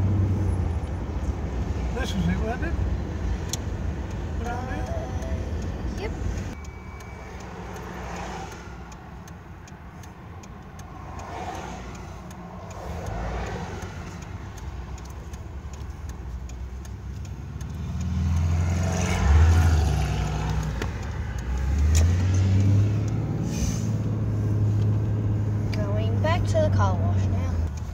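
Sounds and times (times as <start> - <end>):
car engine rumble: 0.0 - 27.9
road noise: 0.0 - 27.9.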